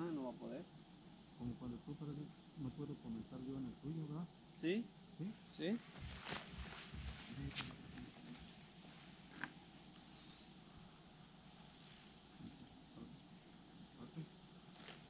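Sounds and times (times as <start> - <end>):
faint pulsing chirp: 0.0 - 14.9
crickets trilling: 0.0 - 15.0.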